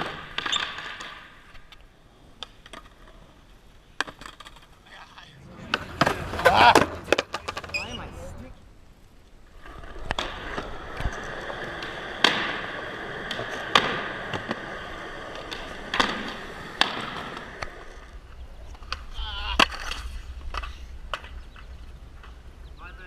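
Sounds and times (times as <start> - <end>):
skateboard wheels clicking over cracks: 0.0 - 8.0, 9.1 - 22.4
skateboard wheels rolling on pavement: 0.0 - 22.8.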